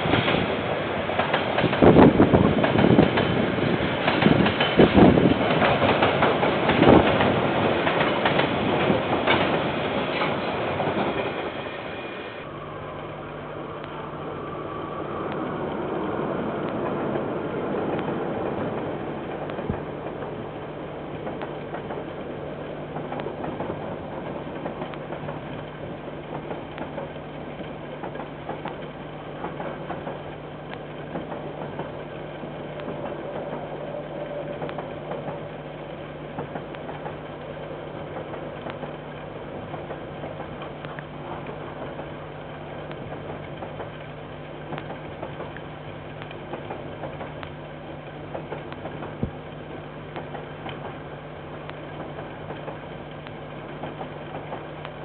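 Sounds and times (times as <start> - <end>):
diesel locomotive engine humming: 0.0 - 55.0.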